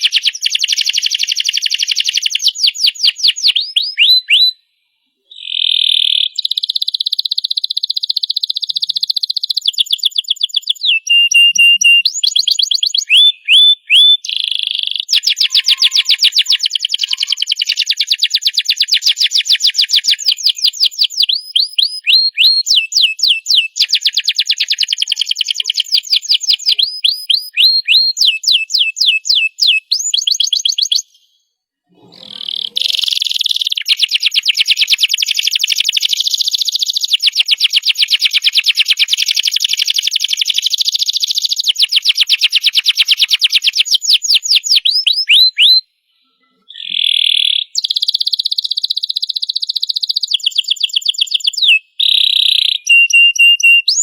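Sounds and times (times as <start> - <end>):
canary singing trills: 0.0 - 4.6, 5.2 - 54.0.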